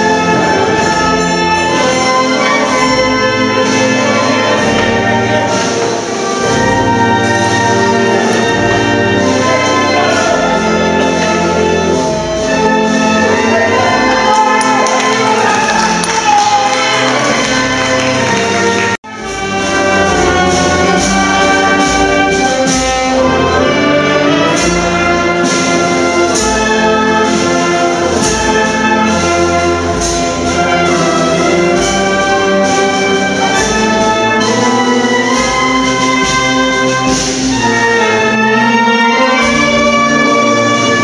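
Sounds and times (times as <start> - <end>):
brass band playing slow melody: 0.0 - 41.0.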